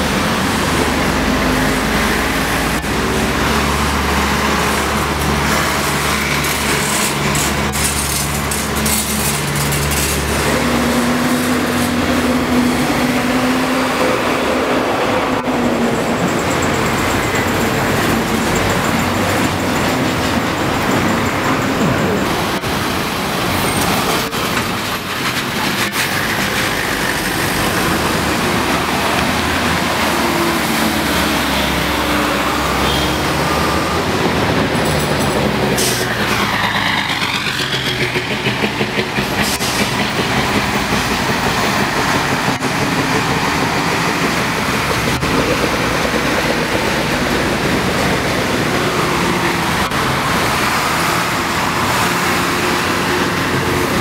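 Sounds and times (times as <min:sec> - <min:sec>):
buses and cars driving past: 0:00.0 - 0:54.0
heavy bus engines: 0:00.0 - 0:54.0.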